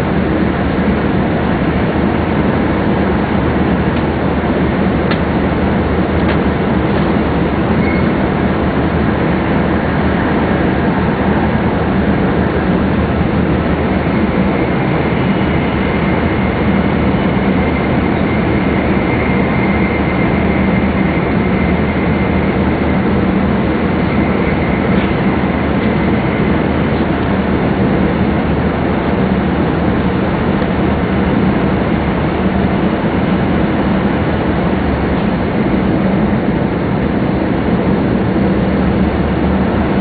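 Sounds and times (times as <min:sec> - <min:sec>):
train cabin rumble: 0:00.0 - 0:40.0
faint high whine: 0:07.3 - 0:40.0.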